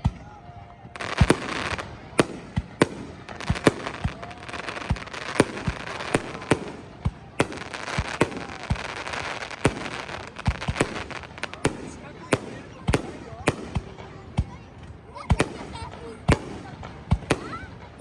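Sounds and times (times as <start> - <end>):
fireworks bangs: 0.0 - 18.0
fireworks crackle: 0.0 - 18.0.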